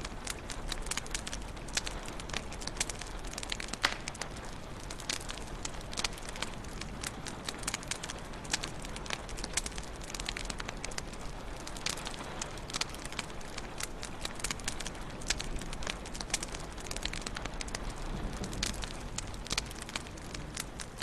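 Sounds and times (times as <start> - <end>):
fire crackling and popping: 0.0 - 21.0
fire flames rushing: 0.0 - 21.0.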